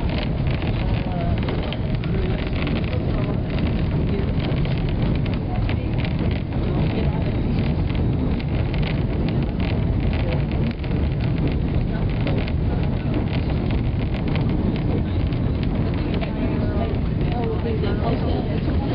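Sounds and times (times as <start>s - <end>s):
rattles and clicks: 0.0s - 18.9s
train rumbling: 0.0s - 18.9s.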